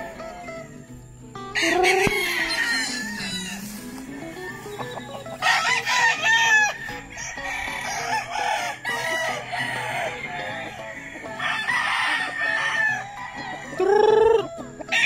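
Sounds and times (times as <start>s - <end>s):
roosters crowing: 0.0s - 15.0s.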